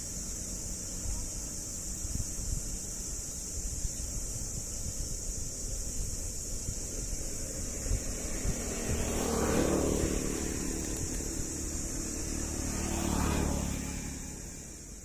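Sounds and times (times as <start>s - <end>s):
steady engine hum: 0.0s - 15.0s
vehicles passing by: 0.0s - 15.0s.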